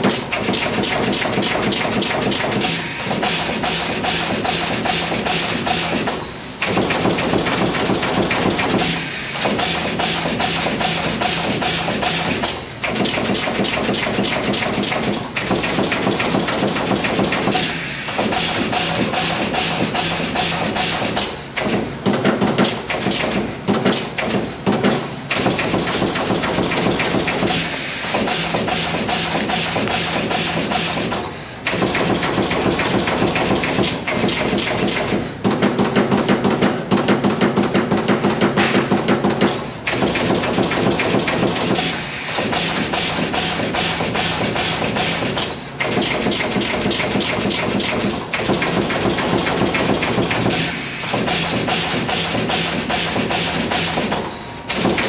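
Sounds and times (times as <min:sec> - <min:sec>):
machine pressing pins with clacks: 0:00.0 - 0:55.0.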